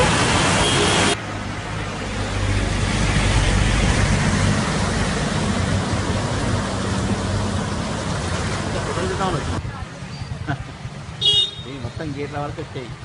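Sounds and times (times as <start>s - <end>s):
floodwater rushing along street: 0.0s - 13.0s.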